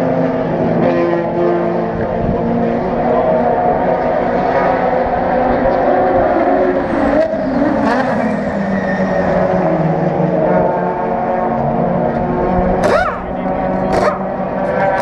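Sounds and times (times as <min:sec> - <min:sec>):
car going by: 0:00.0 - 0:15.0
race car engines running: 0:00.0 - 0:15.0.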